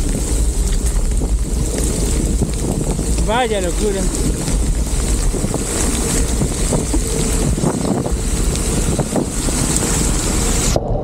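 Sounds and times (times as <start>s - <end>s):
heavy rain hissing: 0.0s - 11.0s
tyres on wet road: 0.0s - 11.0s
wind on microphone: 0.0s - 11.0s.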